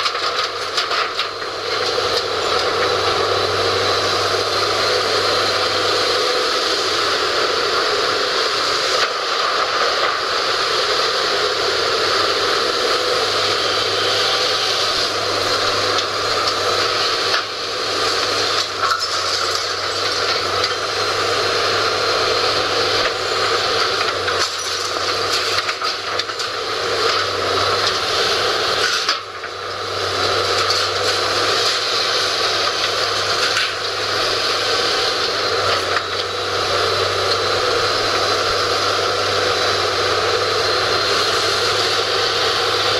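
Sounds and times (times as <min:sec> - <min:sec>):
demolition excavator running: 0:00.0 - 0:42.9.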